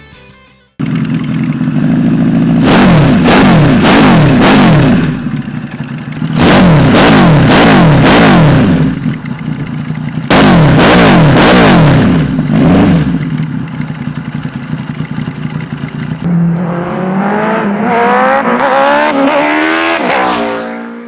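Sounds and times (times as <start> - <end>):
motorcycle engine revving: 0.8 - 21.0.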